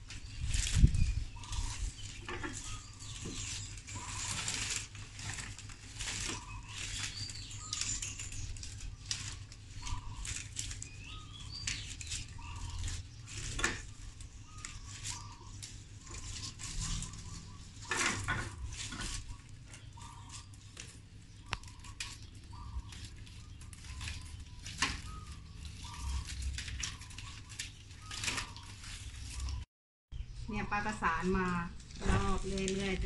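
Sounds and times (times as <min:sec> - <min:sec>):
leaf strips rustling and crackling: 0:00.0 - 0:29.7, 0:30.8 - 0:33.0
bird calls: 0:00.0 - 0:33.0.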